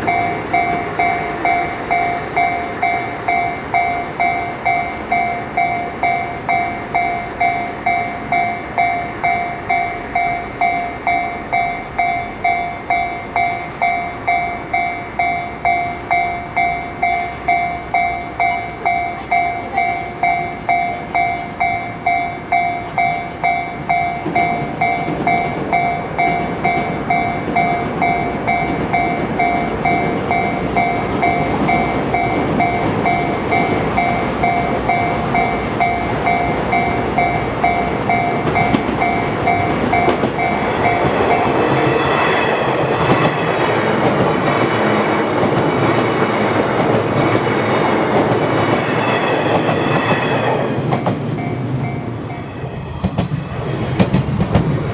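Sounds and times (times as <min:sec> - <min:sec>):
crossing warning bell ringing: 0:00.0 - 0:54.9
train wheels clickety-clack: 0:00.0 - 0:54.9.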